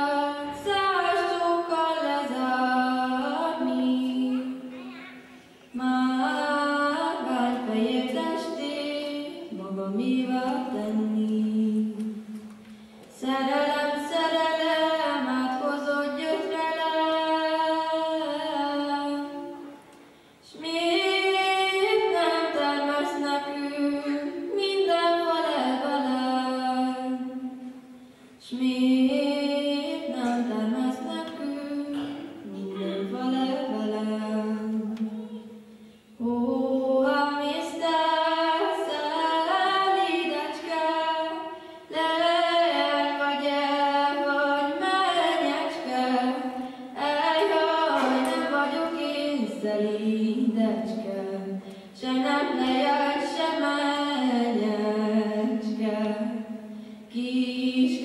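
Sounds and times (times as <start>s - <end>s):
woman singing unaccompanied: 0.0s - 4.7s, 5.7s - 12.4s, 13.1s - 19.8s, 20.4s - 27.7s, 28.4s - 35.6s, 36.2s - 58.0s.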